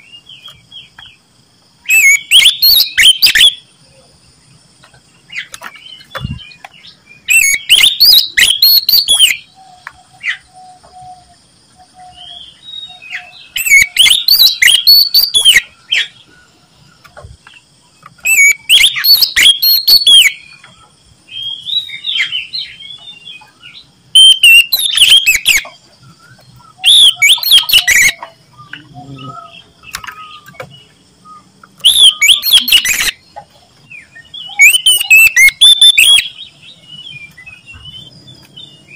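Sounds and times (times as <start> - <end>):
bird singing warbling phrases: 0.0 - 38.9.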